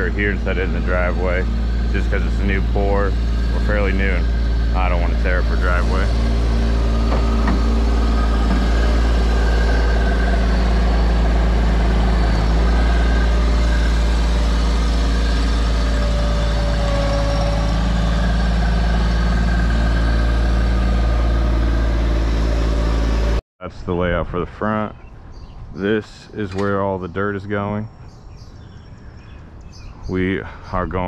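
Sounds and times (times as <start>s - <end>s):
engine rumbling: 0.0s - 31.0s.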